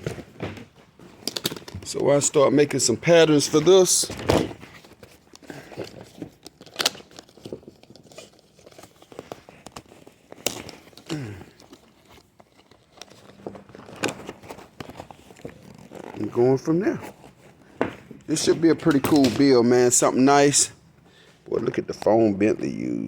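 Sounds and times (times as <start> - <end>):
rustling and crinkling handling: 0.0 - 23.0.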